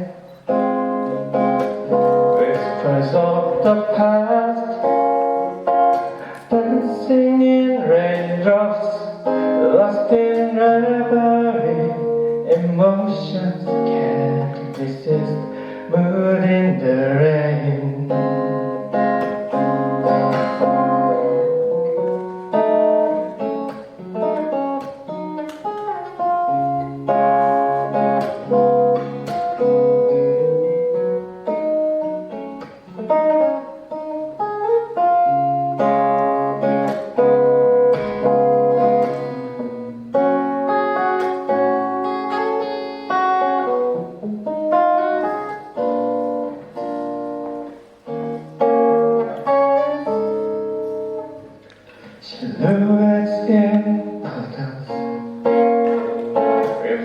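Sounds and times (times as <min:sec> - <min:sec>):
guitar plucked notes and chords: 0:00.0 - 0:57.0.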